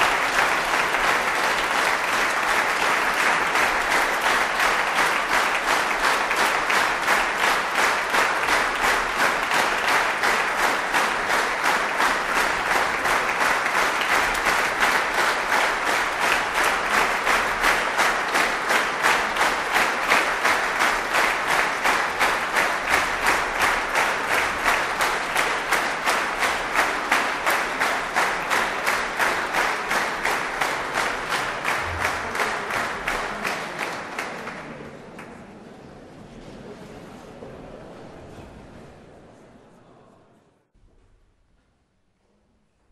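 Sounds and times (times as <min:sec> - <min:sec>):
audience applauding: 0:00.0 - 0:35.3.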